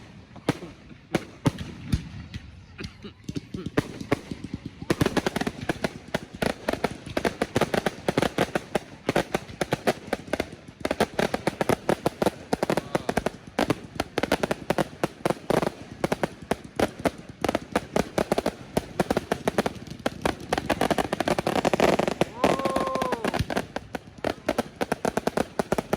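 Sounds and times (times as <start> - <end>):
fireworks exploding rapidly: 0.0 - 25.9.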